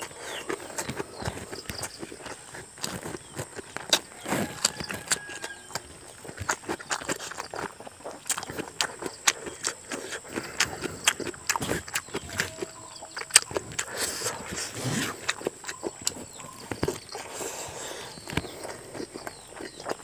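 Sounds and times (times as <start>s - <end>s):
fingers working rice: 0.0s - 20.0s
wet chewing and lip smacks: 0.0s - 20.0s.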